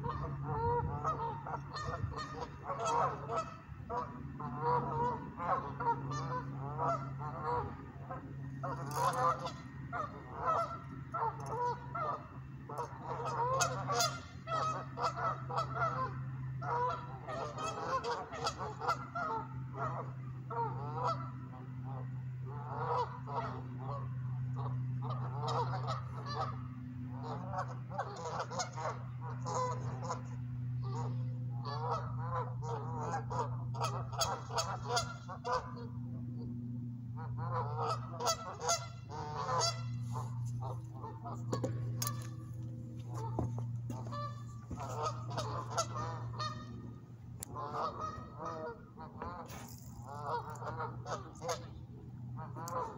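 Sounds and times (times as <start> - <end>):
geese honking: 0.0 - 52.9
steady low hum: 0.0 - 52.9.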